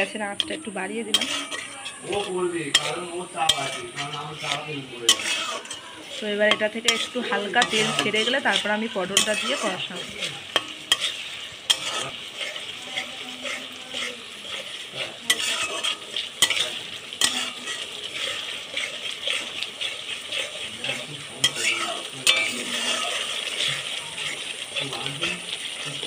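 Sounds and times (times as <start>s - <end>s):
masala sizzling in hot oil: 0.0s - 26.0s
metal spatula scraping wok: 0.0s - 26.0s.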